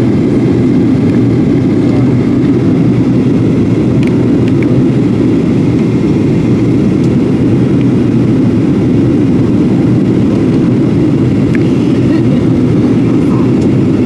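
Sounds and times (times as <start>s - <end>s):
jet cabin engine and airflow noise: 0.0s - 14.0s.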